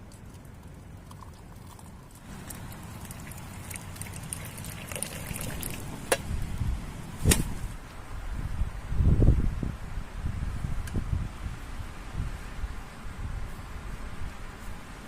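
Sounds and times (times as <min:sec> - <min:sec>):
wind rumbling: 0:00.0 - 0:15.0.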